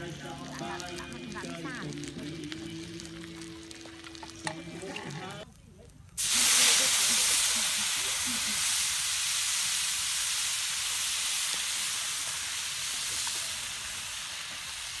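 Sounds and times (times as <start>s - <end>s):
snails sizzling on hot stone: 0.0s - 15.0s.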